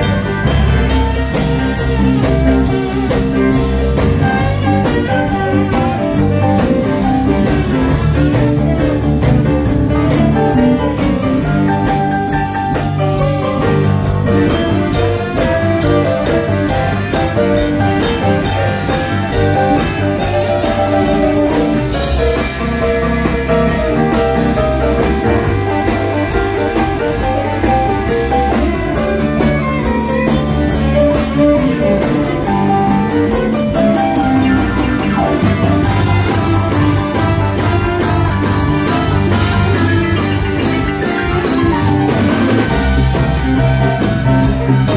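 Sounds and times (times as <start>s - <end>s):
drum kit: 0.0s - 44.9s
electric guitar: 0.0s - 44.9s
horn section with saxophone: 0.0s - 44.9s
organ and keyboard: 0.0s - 44.9s.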